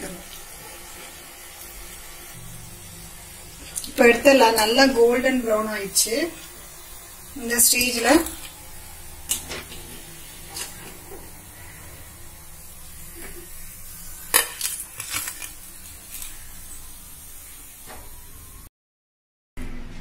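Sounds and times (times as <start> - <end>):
frying oil hiss: 0.0 - 18.7.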